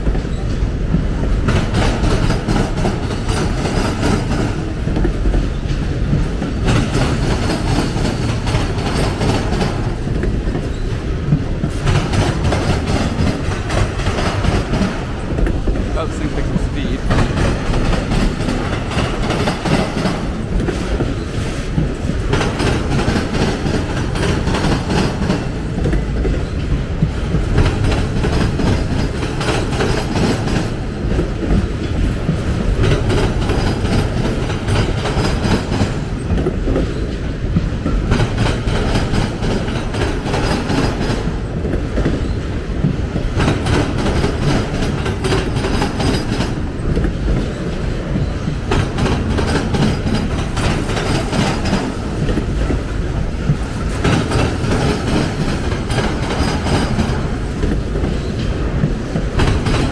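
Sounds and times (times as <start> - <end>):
train wheels rumbling on rail: 0.0 - 59.9
wheels clacking over track: 0.0 - 59.9.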